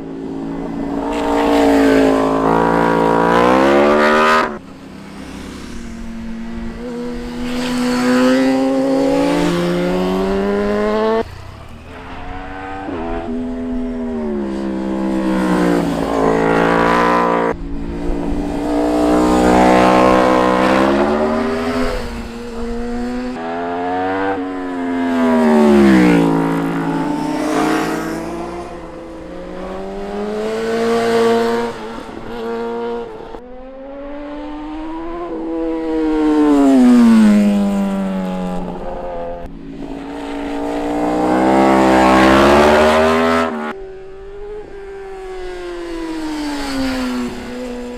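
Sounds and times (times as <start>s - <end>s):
motorcycles revving past: 0.0s - 47.9s.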